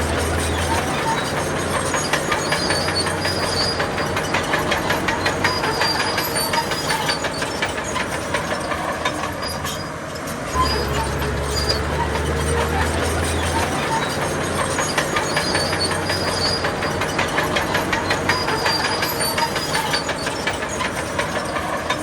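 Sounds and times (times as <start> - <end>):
bulldozer diesel engine drone: 0.0 - 22.0
steel tracks clanking: 0.0 - 22.0.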